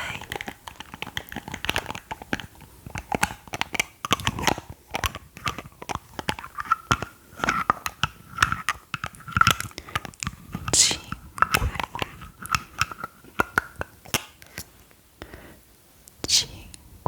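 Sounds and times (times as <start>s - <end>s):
crisp clicks and crackles: 0.0s - 15.4s.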